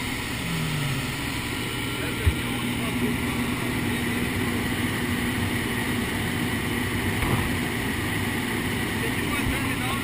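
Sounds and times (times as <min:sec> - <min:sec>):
plane engine drone: 0:00.0 - 0:09.3.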